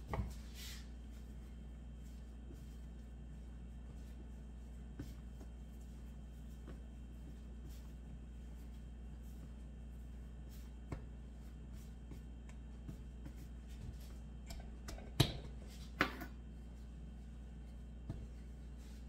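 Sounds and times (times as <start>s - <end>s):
hands handling dough: 0.0s - 19.0s
steady low hum: 0.0s - 19.0s.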